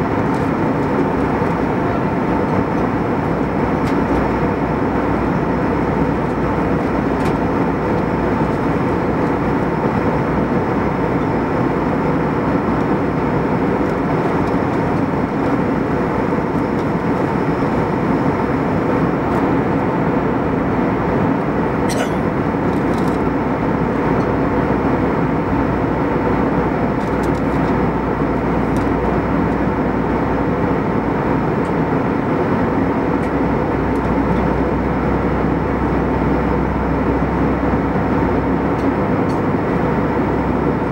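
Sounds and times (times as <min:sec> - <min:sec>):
airplane cabin airflow and engine drone: 0:00.0 - 0:40.9.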